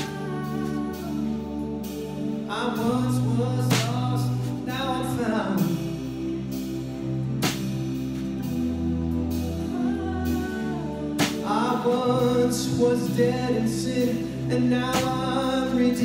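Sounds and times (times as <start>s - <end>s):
person singing: 0.0s - 6.6s, 9.4s - 16.0s
keyboard chords: 0.0s - 16.0s.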